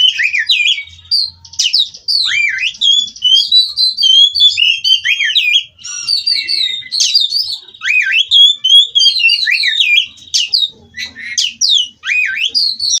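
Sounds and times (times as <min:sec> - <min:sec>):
magpie-robin singing: 0:00.0 - 0:13.0.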